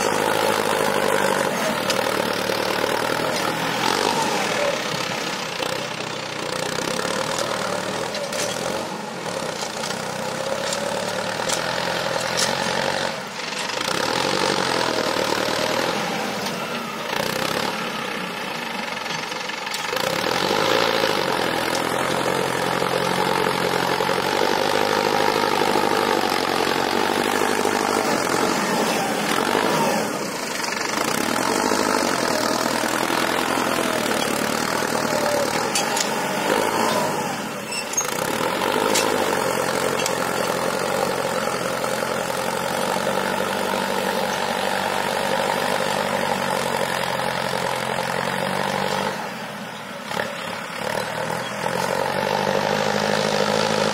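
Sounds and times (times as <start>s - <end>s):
tractor engine under load: 0.0s - 53.9s.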